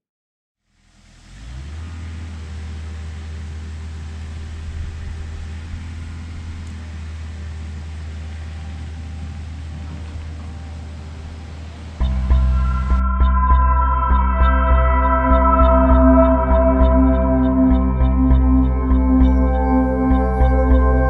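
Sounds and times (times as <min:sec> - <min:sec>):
excavator diesel engine humming: 0:01.2 - 0:21.0.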